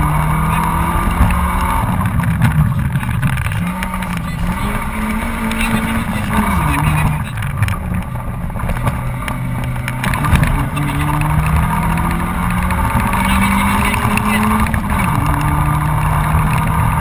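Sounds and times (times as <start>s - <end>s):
car engine accelerating: 0.0s - 17.0s
road and tyre rumble: 0.0s - 17.0s
stones ticking: 0.4s - 17.0s.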